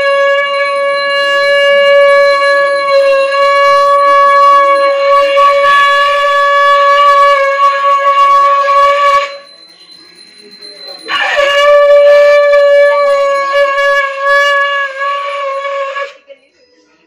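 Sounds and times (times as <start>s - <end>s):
conch shell blown: 0.0s - 9.7s, 11.1s - 16.3s.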